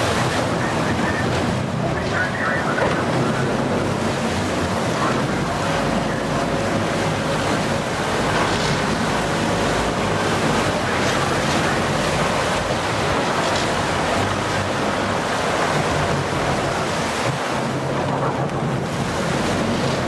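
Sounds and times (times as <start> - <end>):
sea water splashing: 0.0 - 20.0
wind buffeting microphone: 0.0 - 20.0.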